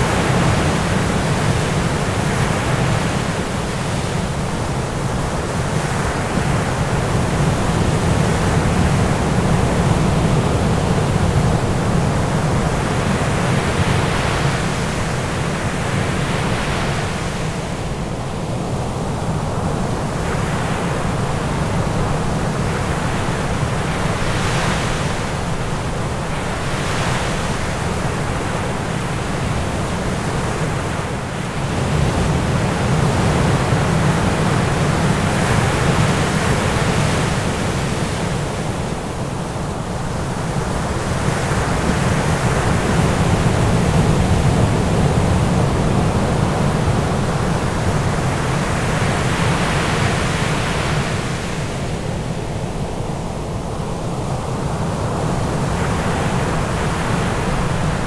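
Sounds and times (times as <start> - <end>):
ocean surf: 0.0 - 58.0.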